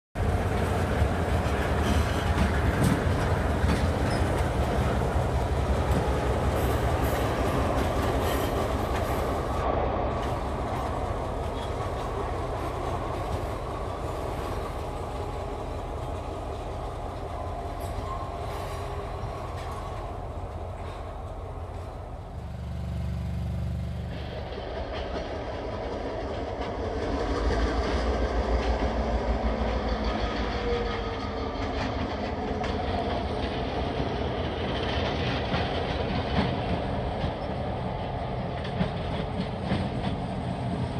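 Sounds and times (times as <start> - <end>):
locomotive engine rumbling: 0.2 - 40.9
train cars rolling over rails: 0.2 - 40.9.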